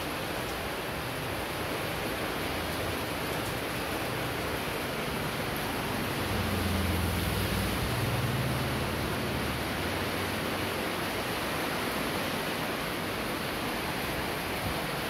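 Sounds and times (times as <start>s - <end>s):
heavy rain on concrete street: 0.0s - 15.0s.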